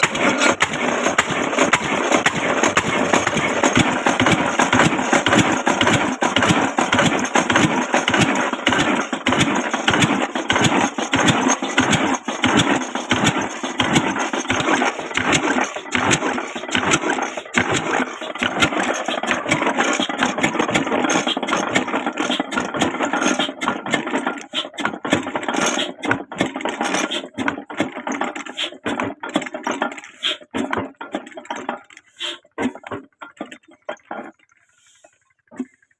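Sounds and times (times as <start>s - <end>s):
old diesel engine chugging: 0.0s - 35.9s.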